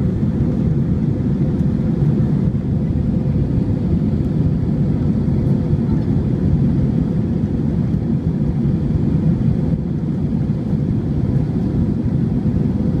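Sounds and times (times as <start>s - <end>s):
airliner engines roaring: 0.0s - 13.0s.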